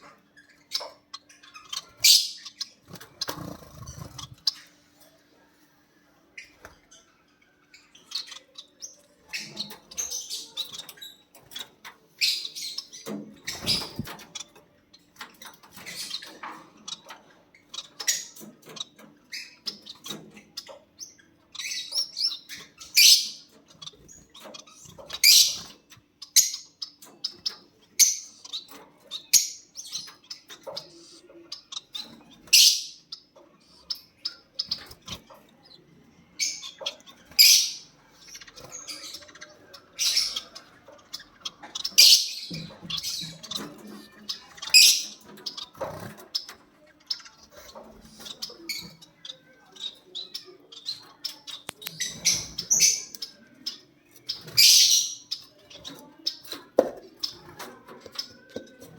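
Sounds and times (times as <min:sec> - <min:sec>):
lovebirds chirping: 0:00.0 - 0:58.9.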